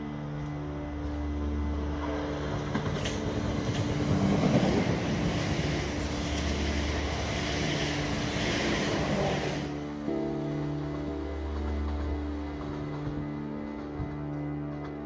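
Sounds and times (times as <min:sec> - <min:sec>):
train rushing through station: 0:00.0 - 0:15.0.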